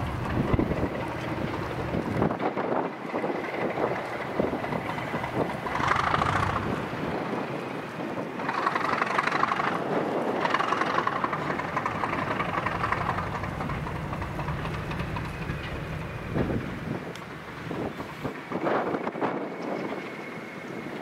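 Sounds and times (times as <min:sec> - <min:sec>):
diesel locomotive engine: 0:00.0 - 0:21.0.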